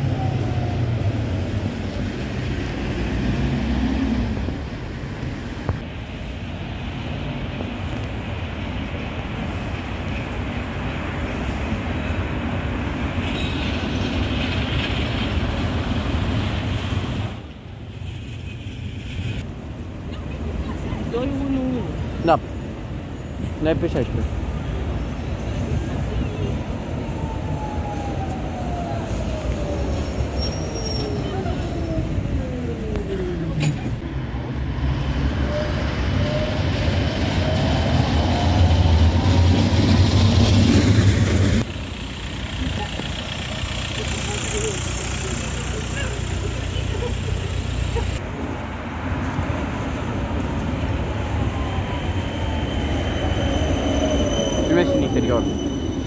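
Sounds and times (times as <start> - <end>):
road traffic: 0.0 - 56.0
tram rolling on rails: 0.0 - 56.0.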